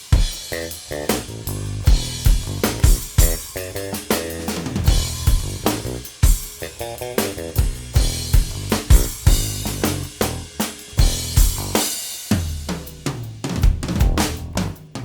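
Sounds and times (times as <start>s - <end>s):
music with heavy drum beat: 0.0s - 15.0s.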